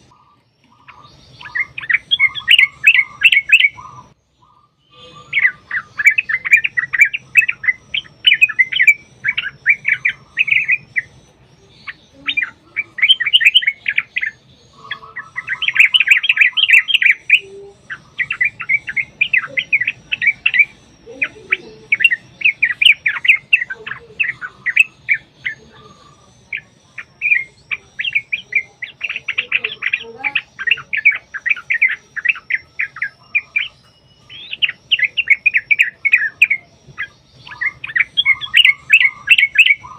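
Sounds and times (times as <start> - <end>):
bulbuls chattering song: 0.0 - 39.9.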